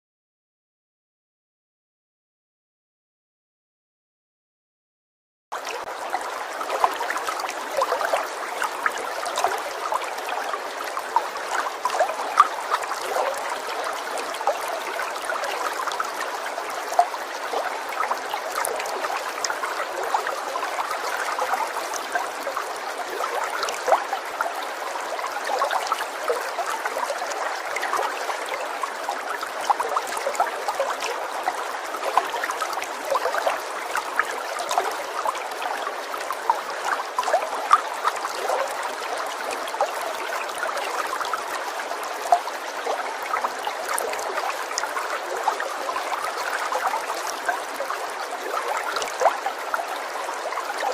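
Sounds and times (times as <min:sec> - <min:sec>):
small water splashes: 0:05.6 - 0:50.9
water trickling and gurgling: 0:05.6 - 0:50.9.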